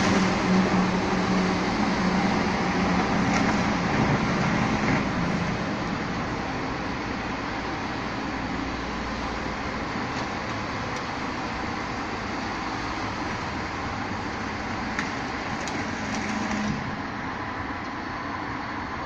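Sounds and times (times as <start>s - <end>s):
garbage truck running: 0.0s - 19.0s.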